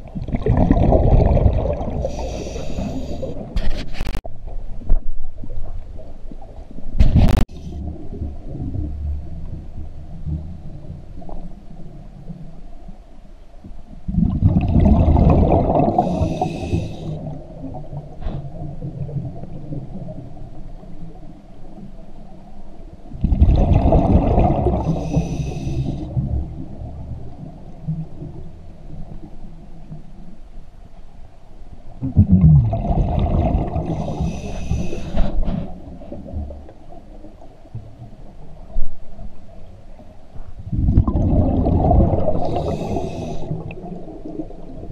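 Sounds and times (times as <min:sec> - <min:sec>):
exhaled bubbles rushing underwater: 0:00.0 - 0:03.6, 0:04.4 - 0:12.6, 0:14.0 - 0:21.8, 0:23.1 - 0:29.3, 0:32.0 - 0:44.9
low underwater rumble: 0:00.0 - 0:44.9.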